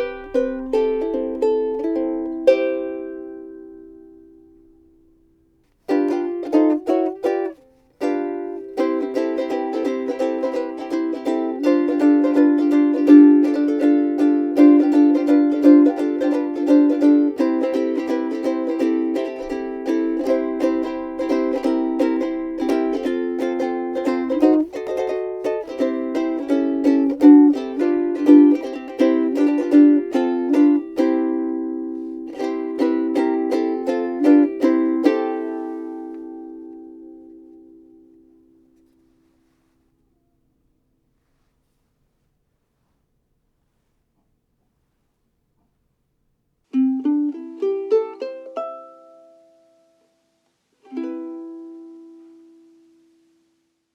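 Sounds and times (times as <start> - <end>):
ukulele plucked notes and chords: 0.0 - 39.6, 46.7 - 50.2, 50.8 - 53.2.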